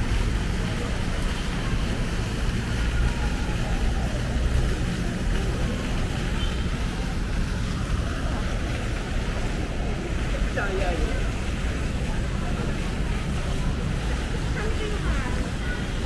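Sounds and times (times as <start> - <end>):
faint voices: 0.0 - 16.0.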